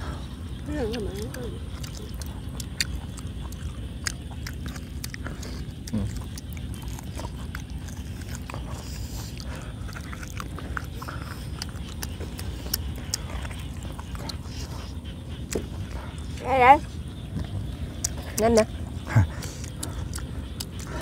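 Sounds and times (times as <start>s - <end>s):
chewing and biting meat: 0.3s - 16.4s, 17.0s - 21.0s
mouth smacks and clicks: 0.9s - 16.0s, 17.4s - 21.0s.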